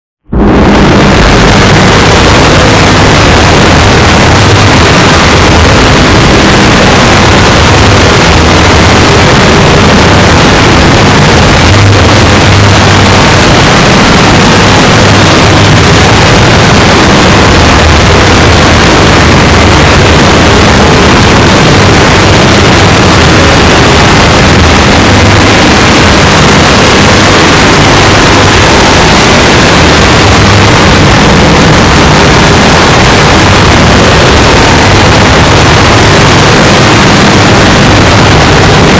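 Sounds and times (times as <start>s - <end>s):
distorted sneeze noise: 0.3s - 38.9s
low steady hum: 0.3s - 38.9s.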